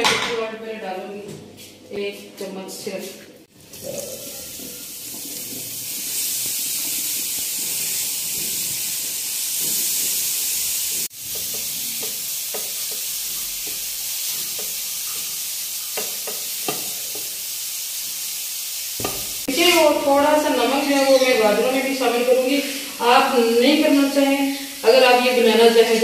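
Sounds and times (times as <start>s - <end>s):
vegetables sizzling in oil: 3.5s - 26.0s.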